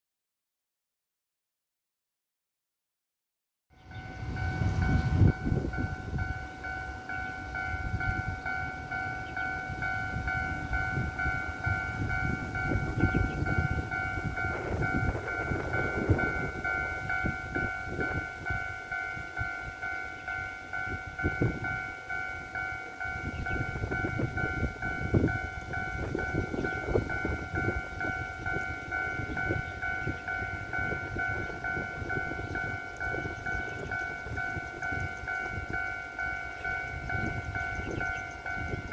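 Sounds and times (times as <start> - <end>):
level crossing warning bell: 3.8 - 38.9
wind buffeting microphone: 3.8 - 38.9.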